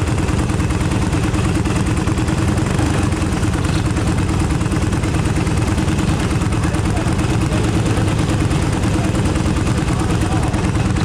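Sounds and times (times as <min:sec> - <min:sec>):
go-kart engine idling: 0:00.0 - 0:11.0.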